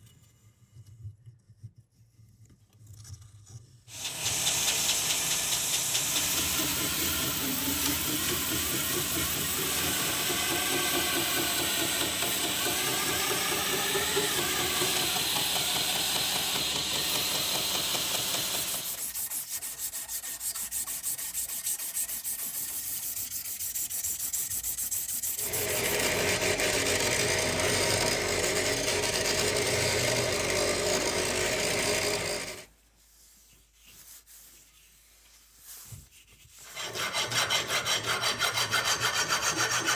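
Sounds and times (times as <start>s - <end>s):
sanding or rasping: 3.9s - 39.9s.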